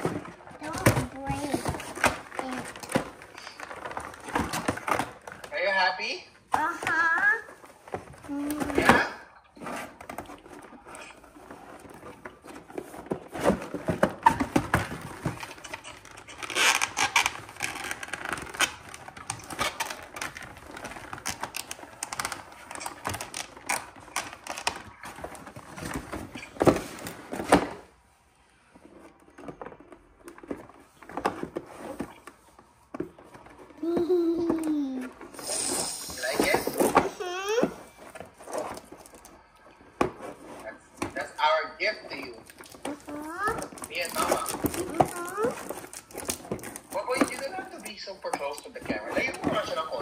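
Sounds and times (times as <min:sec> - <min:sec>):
toy packaging rustling and crinkling: 0:00.0 - 0:05.7, 0:06.4 - 0:28.0, 0:28.7 - 0:50.0.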